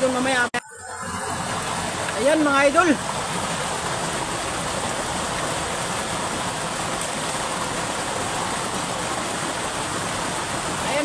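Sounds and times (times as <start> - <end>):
water rushing from sluice gate: 0.0 - 11.0.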